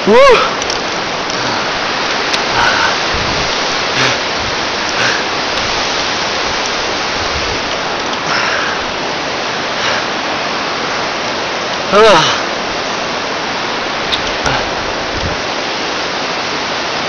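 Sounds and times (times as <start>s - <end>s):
wind rushing on microphone: 0.0s - 11.1s, 12.5s - 16.9s.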